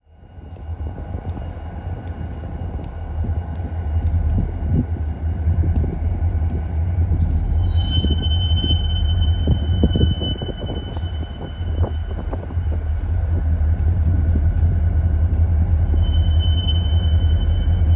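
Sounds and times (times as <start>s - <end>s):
diesel locomotives rumbling: 0.0s - 17.9s.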